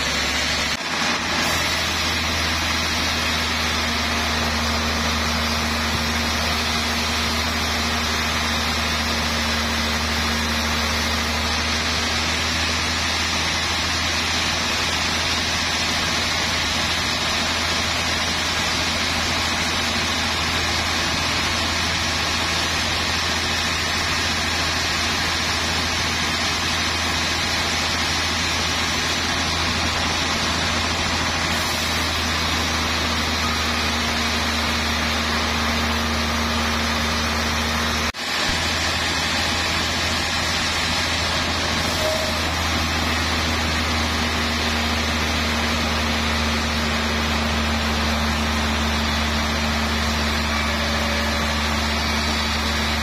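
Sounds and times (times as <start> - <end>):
band saw cutting log: 0.0 - 53.0.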